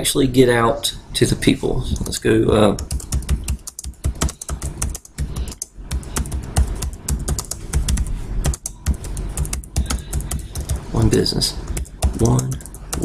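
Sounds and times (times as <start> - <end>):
typing on laptop keyboard: 1.9 - 13.0.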